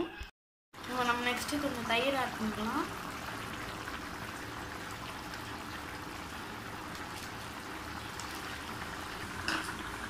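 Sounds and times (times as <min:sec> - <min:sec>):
curry bubbling in a pan: 0:00.8 - 0:10.0.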